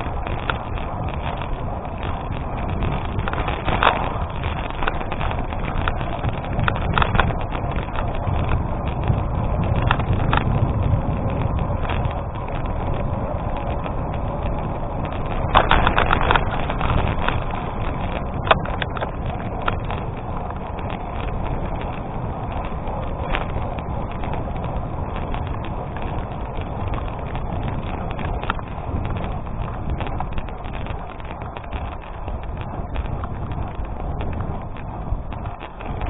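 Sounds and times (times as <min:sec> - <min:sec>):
clicks and rattles: 0:00.0 - 0:10.6, 0:15.0 - 0:36.0
bicycle tyres crunching on gravel: 0:00.0 - 0:36.0.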